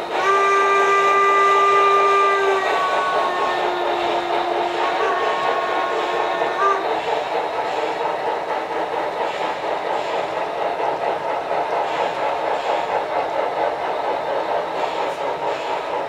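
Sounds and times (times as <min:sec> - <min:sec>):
model train wheels rumbling: 0:00.0 - 0:16.0.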